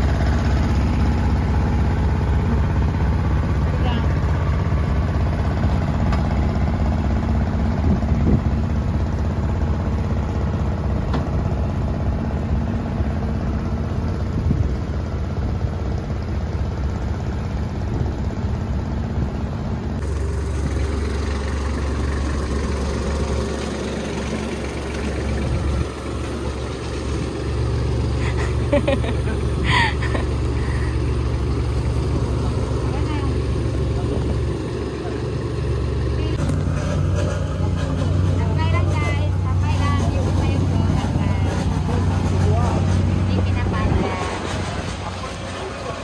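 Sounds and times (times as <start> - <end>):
deep engine drone: 0.0 - 46.0
machinery engines idling: 0.0 - 46.0.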